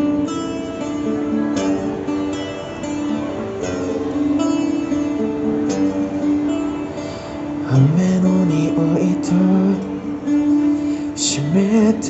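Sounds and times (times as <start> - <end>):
guitar picked chords: 0.0 - 12.0.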